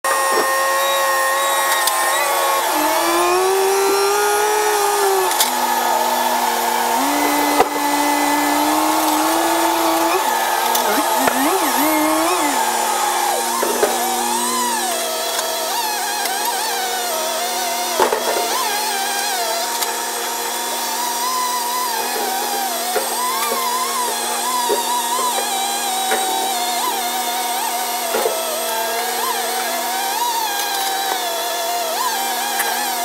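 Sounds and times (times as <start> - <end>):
high motor-like whine: 0.1 - 33.0.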